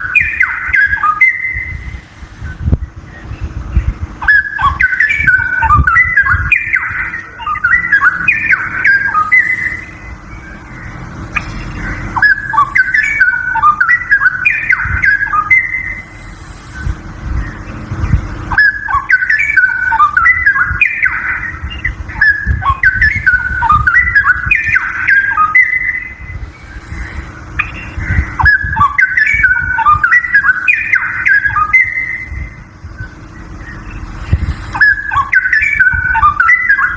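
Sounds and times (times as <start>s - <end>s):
bird singing whistled phrases: 0.0s - 36.9s.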